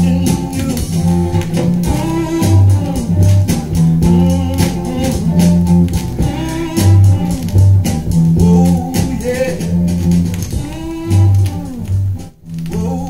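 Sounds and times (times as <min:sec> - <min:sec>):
guitar phrases: 0:00.0 - 0:13.0
repeating bass line: 0:00.0 - 0:13.0.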